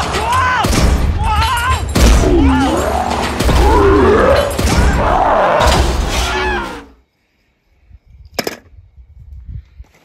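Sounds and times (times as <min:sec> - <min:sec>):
animated film soundtrack music: 0:00.0 - 0:08.2.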